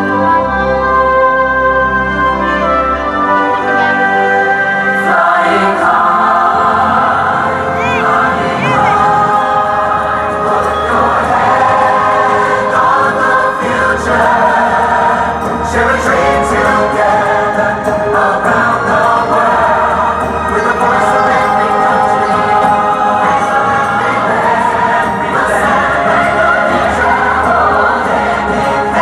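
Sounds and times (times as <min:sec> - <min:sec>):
choir singing with orchestra: 0:00.0 - 0:29.0.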